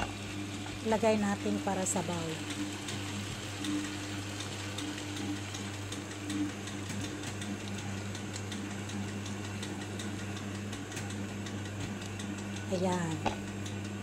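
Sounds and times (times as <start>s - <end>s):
low electric hum: 0.0s - 14.0s.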